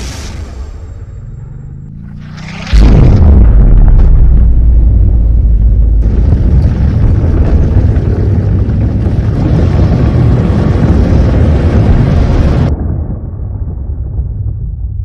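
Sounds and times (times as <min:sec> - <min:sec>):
explosion rumbling roar: 0:00.0 - 0:15.0.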